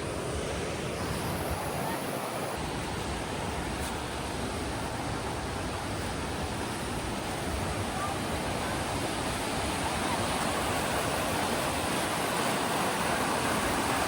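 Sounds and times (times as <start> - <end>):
creek water cascading: 0.0 - 14.0.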